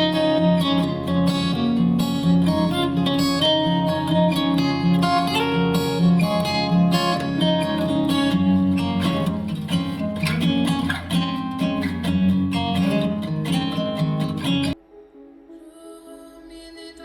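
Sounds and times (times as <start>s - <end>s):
acoustic guitar music through speaker: 0.0s - 14.8s.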